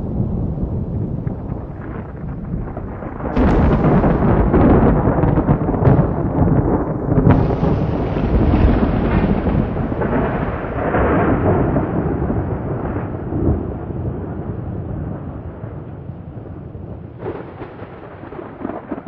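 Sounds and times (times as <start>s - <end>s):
thunder rumbling: 0.0s - 19.0s.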